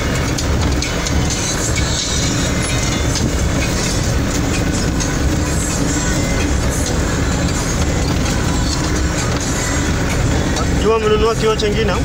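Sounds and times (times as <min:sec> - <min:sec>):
cab rattling and knocking: 0:00.0 - 0:12.0
engine and tyre rumble: 0:00.0 - 0:12.0.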